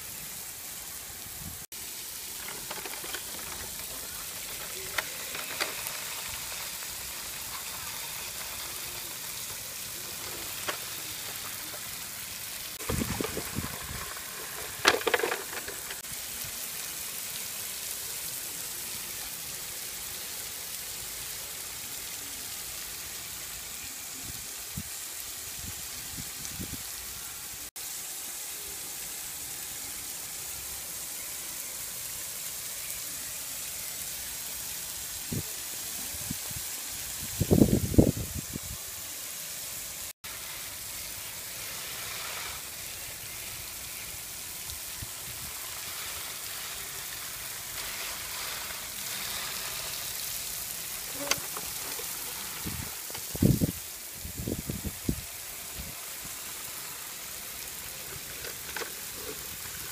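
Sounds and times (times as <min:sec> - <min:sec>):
rain on wet paving: 0:00.0 - 0:59.9.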